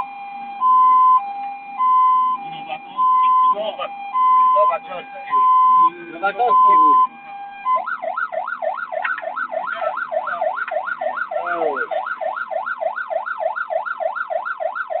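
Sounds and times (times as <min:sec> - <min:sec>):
fire engine siren yelping: 0:00.0 - 0:15.0.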